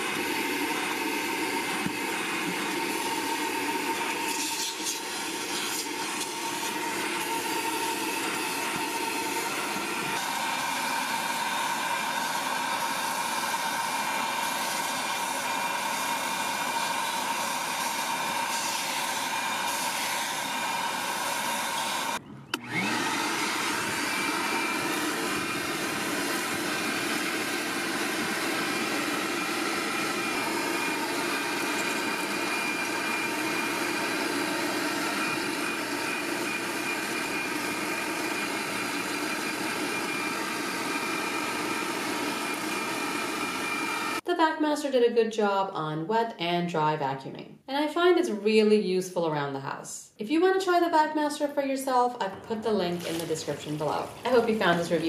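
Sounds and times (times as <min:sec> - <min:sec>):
wet dry vacuum running: 0:00.0 - 0:44.3, 0:52.3 - 0:55.0.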